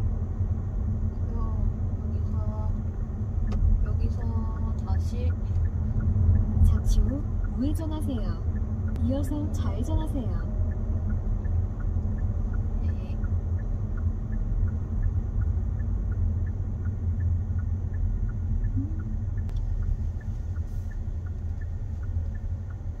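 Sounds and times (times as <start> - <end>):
car road and engine rumble: 0.0 - 23.0
turn signal ticking: 0.0 - 23.0.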